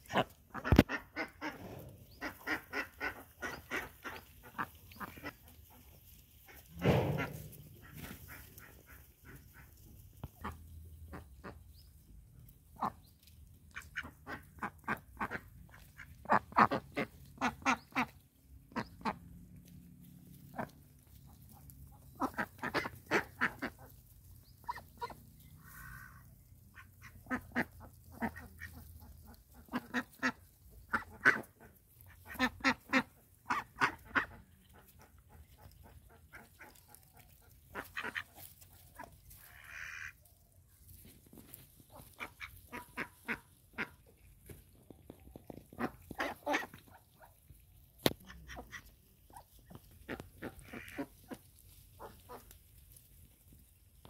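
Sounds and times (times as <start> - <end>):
ducks quacking: 0.0 - 12.1, 12.7 - 19.7, 20.5 - 40.4, 41.5 - 52.8.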